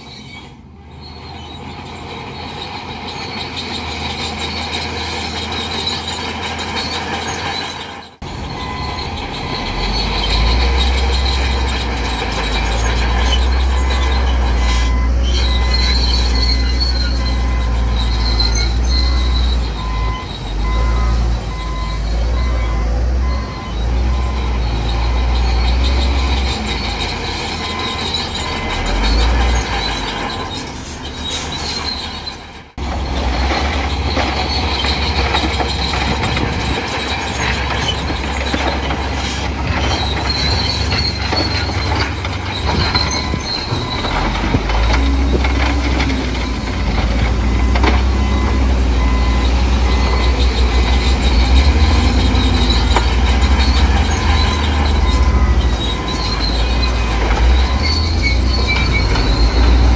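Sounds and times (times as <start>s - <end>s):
diesel engine deep rumble: 0.0s - 59.9s
steel tracks squealing: 0.0s - 59.9s.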